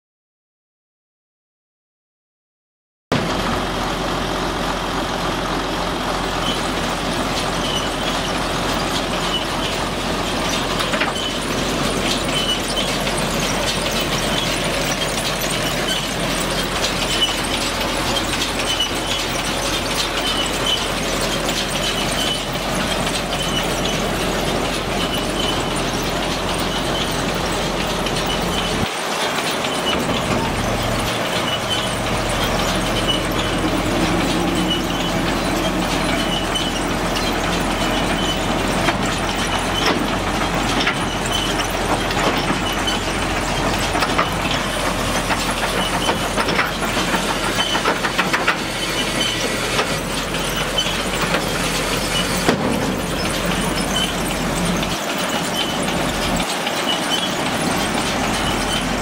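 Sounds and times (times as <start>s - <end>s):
baler mechanical clatter: 3.1s - 59.0s.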